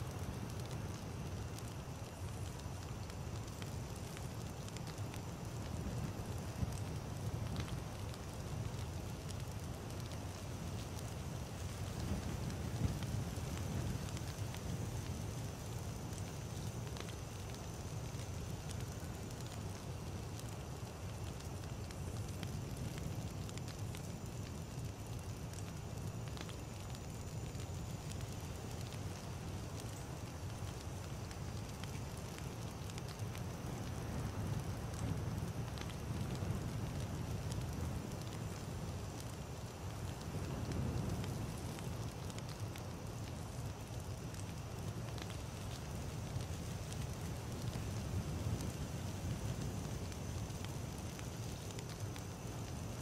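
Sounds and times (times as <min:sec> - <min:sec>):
burning wood crackling: 0:00.0 - 0:53.0
low rumble of flames: 0:00.0 - 0:53.0.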